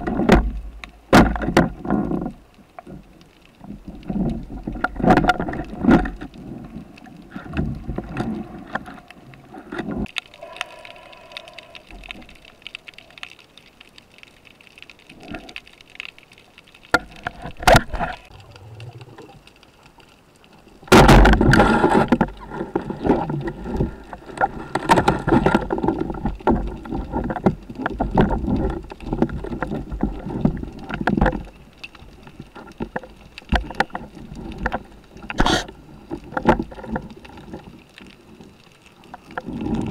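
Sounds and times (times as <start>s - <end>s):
water rushing underwater: 3.5s - 39.9s.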